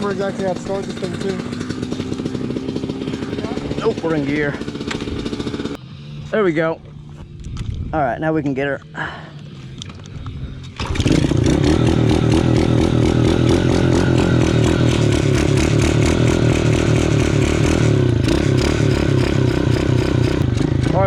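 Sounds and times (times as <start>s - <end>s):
two-stroke dirt bike engine running: 0.0s - 6.6s, 9.0s - 21.0s.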